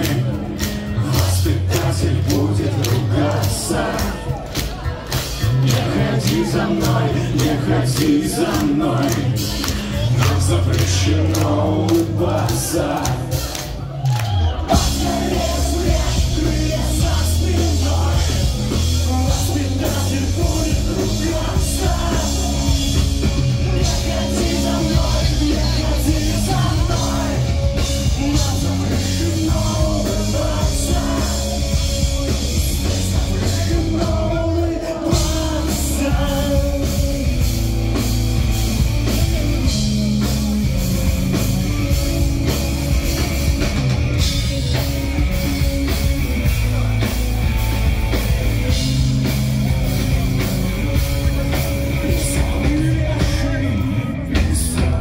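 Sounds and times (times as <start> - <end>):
bass guitar: 0.0 - 55.0
distorted electric guitars: 0.0 - 55.0
drum kit: 0.0 - 55.0.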